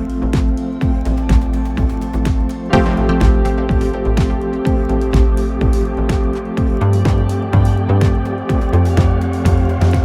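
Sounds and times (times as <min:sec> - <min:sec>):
held synth notes: 0:00.0 - 0:10.0
kick drum beat: 0:00.0 - 0:10.0.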